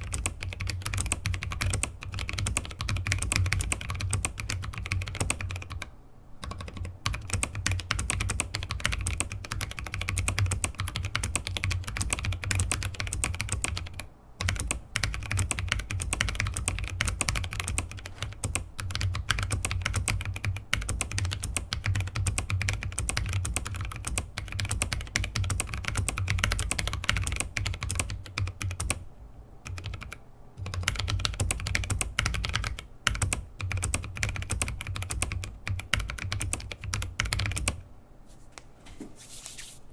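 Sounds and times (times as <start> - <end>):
fast mechanical keyboard typing: 0.0 - 29.0, 29.6 - 37.8.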